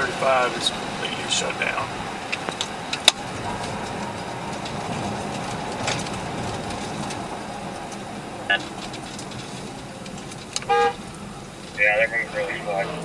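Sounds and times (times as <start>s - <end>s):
vehicle road and engine noise: 0.0s - 13.0s.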